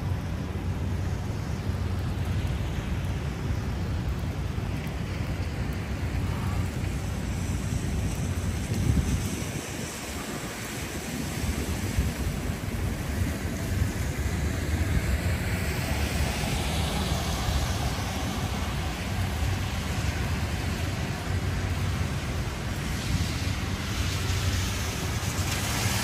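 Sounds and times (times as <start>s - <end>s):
low traffic rumble: 0.0s - 26.0s
rain on an umbrella: 0.0s - 26.0s
vehicle hiss on wet road: 0.0s - 26.0s.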